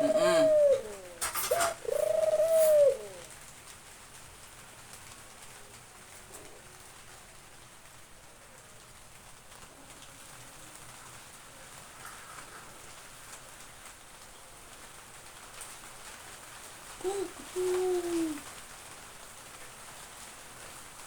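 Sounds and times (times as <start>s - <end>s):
steady rain: 0.0s - 21.0s
ticks of raindrops: 0.0s - 21.0s.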